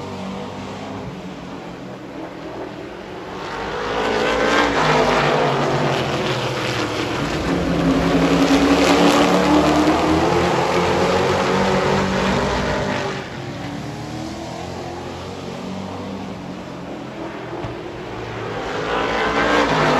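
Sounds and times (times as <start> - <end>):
race truck engines passing: 0.0 - 19.9.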